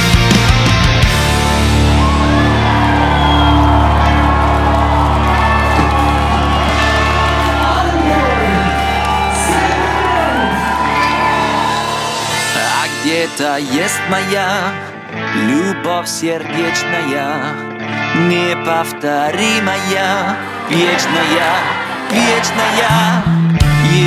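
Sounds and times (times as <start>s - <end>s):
bending lead guitar line: 0.0s - 24.0s.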